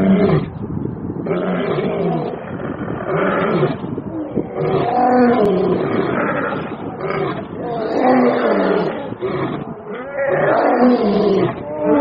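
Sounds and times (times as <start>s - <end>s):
large animal roaring: 0.0s - 0.5s, 1.2s - 12.0s.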